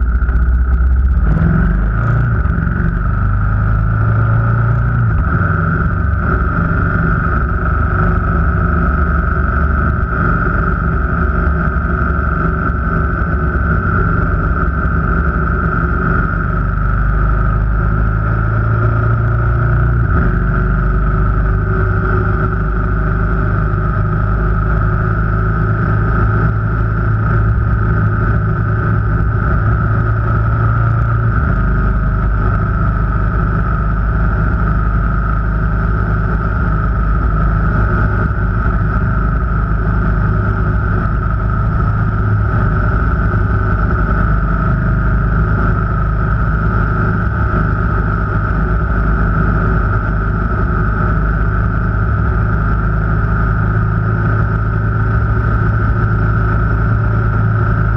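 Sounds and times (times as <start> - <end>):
car engine: 0.0 - 57.9
road noise: 0.0 - 57.9.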